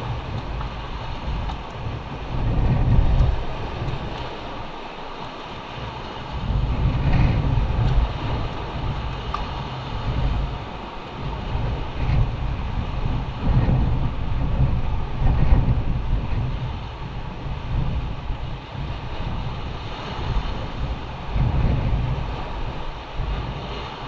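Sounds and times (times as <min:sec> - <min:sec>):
surf on rocky shore: 0:00.0 - 0:24.0
wind buffeting microphone: 0:00.0 - 0:24.0.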